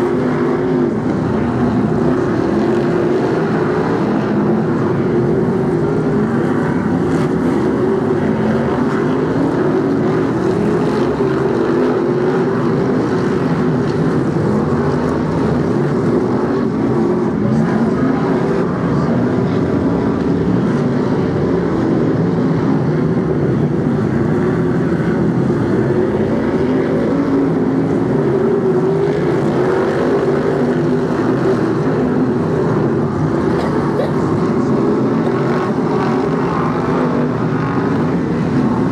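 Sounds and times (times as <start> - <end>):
stock car engines racing: 0.0 - 38.9.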